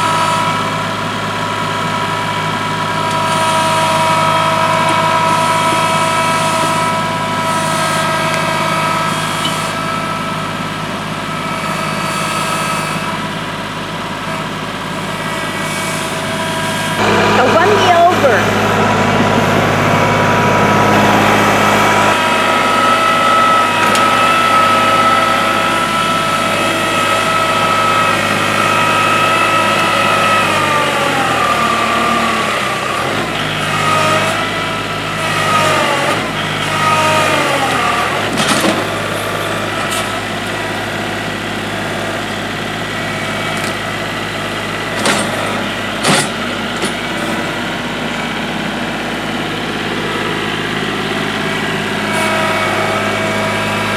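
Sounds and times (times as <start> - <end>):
tractor diesel engine labouring: 0.0 - 53.9.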